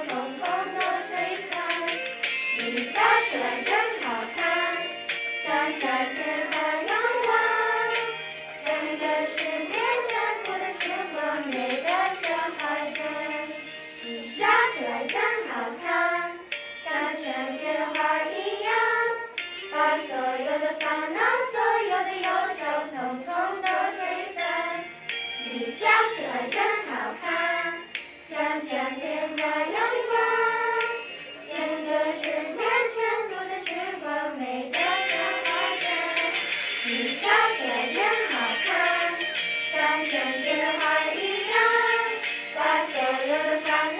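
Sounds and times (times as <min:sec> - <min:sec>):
children singing in unison: 0:00.0 - 0:13.5, 0:14.1 - 0:24.8, 0:25.4 - 0:43.9
music: 0:00.0 - 0:43.9.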